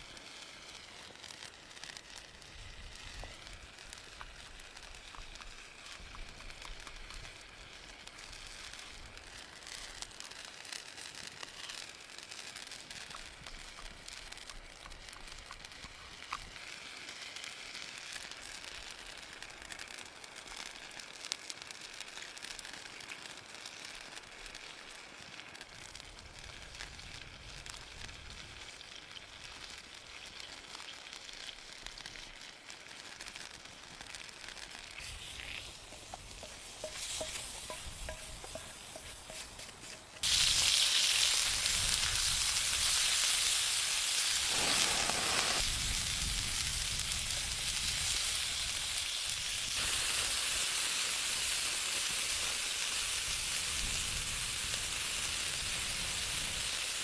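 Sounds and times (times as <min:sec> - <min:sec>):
food sizzling in a hot pan: 0:00.0 - 0:57.0.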